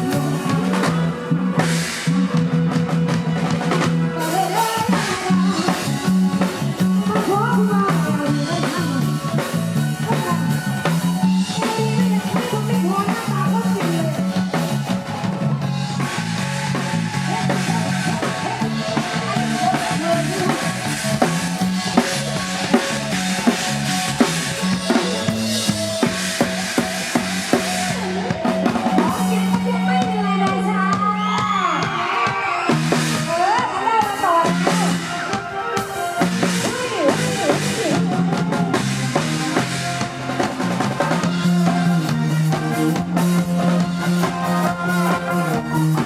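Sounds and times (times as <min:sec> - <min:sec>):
bass line: 0:00.0 - 0:46.0
drum kit beat: 0:00.0 - 0:46.0.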